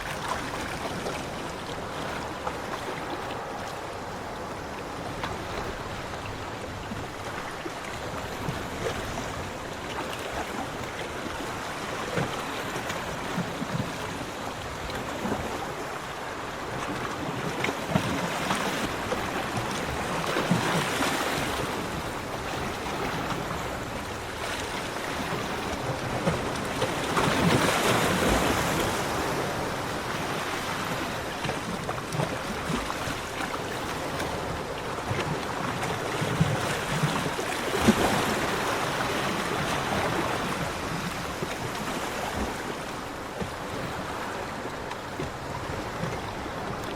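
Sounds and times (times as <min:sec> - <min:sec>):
ocean waves washing onto beach: 0:00.0 - 0:46.9.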